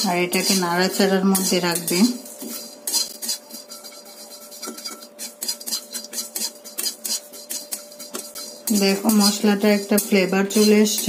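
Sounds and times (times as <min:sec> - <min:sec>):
metal spatula scraping a pan: 0:00.0 - 0:11.0.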